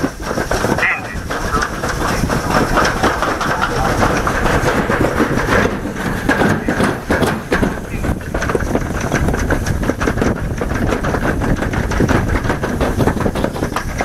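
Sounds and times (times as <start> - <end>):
sled rattling down steel track: 0.0 - 14.0.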